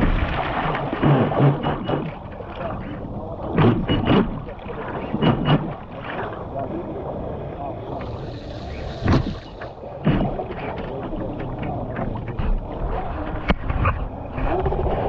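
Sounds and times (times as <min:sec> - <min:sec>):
waves knocking on hull: 0:00.0 - 0:07.1, 0:07.7 - 0:15.0
water splashing against boat hull: 0:00.0 - 0:15.0.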